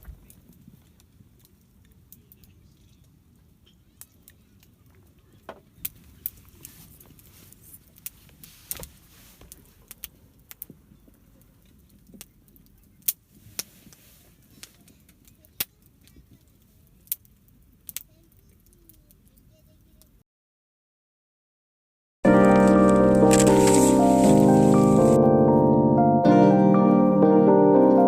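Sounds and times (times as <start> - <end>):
campfire crackling and popping: 0.0 - 20.2, 22.3 - 25.2.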